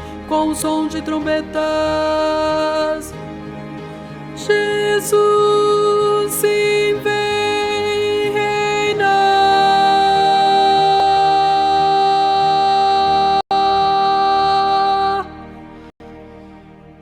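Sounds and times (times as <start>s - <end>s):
contralto voice singing: 0.0s - 3.3s, 4.3s - 15.9s
instrumental accompaniment: 0.0s - 17.0s.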